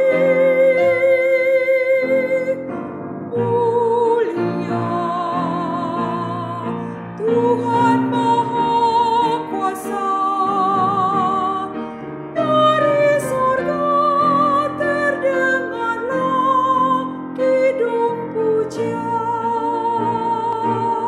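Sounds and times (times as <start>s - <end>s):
woman singing a hymn: 0.0s - 2.7s, 3.3s - 21.0s
piano: 0.0s - 21.0s.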